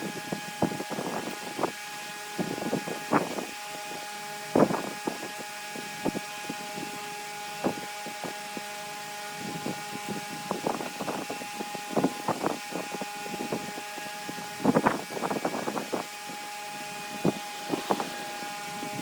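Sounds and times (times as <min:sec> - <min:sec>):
lathe motor whine: 0:00.0 - 0:19.0
tool rasping on spinning wood: 0:00.0 - 0:19.0.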